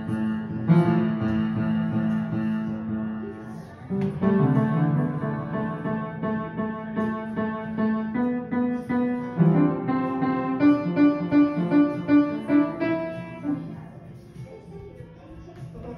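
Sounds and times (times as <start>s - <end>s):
piano notes: 0.0s - 14.1s.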